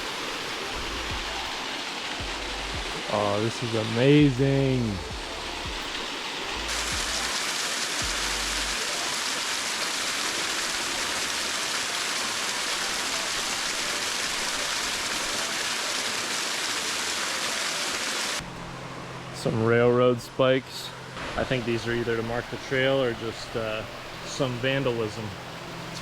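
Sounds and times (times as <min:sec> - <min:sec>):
waterfall rushing: 0:00.0 - 0:18.4, 0:21.2 - 0:26.0.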